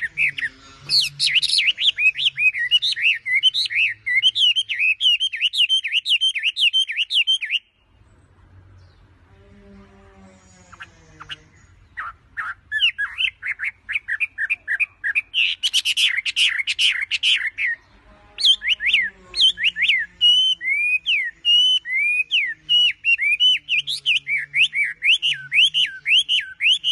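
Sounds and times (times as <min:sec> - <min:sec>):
songbird whistling: 0:00.0 - 0:07.8, 0:10.7 - 0:17.8, 0:18.4 - 0:26.9.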